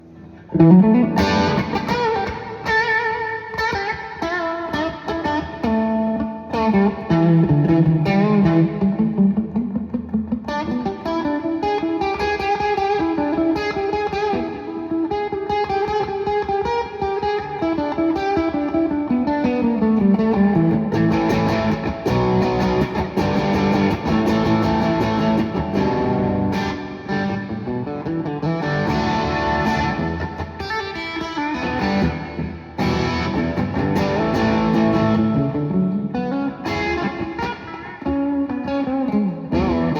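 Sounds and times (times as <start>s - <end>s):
guitar playing with sliding notes: 0.0s - 39.9s.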